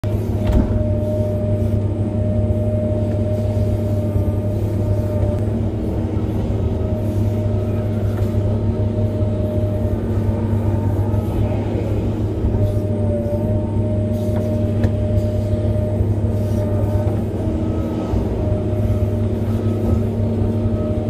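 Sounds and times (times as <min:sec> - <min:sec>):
excavator engine and hydraulics: 0:00.0 - 0:21.0.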